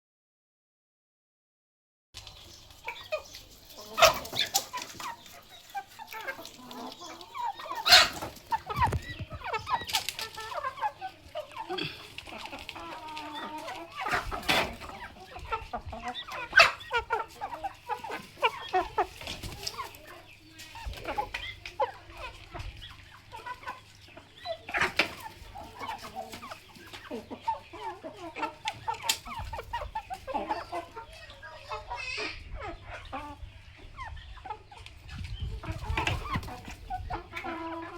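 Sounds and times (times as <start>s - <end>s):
chickens clucking: 2.2s - 37.9s.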